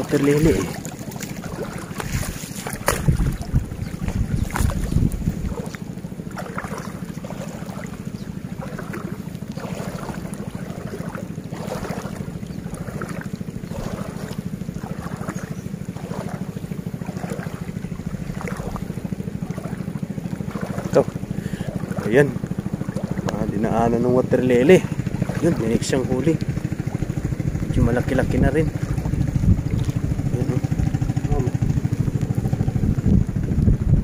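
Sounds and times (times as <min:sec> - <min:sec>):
low rumble: 0:00.0 - 0:34.0
water sloshing from wading: 0:00.0 - 0:34.0.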